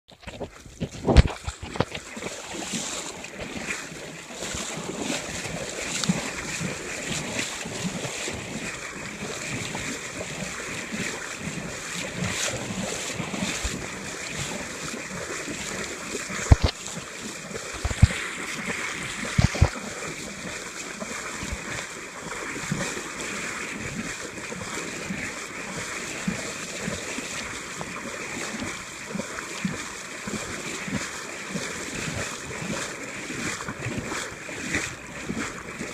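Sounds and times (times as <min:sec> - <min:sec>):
river water rushing and splashing: 0:00.2 - 0:35.9.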